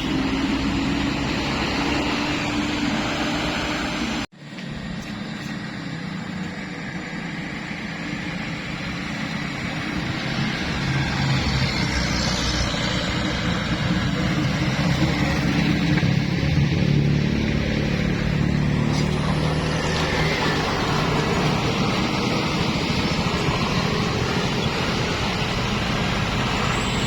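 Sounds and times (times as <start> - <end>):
diesel bus engine running: 0.0 - 27.0.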